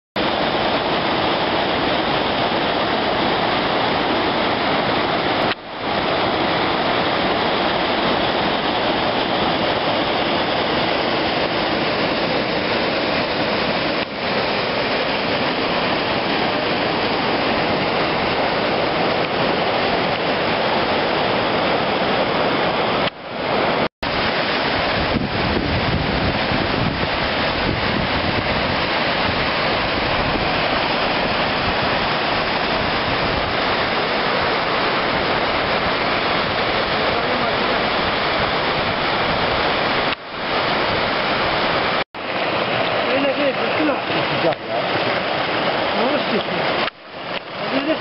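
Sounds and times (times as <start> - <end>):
waterfall rushing over rock: 0.2 - 48.0.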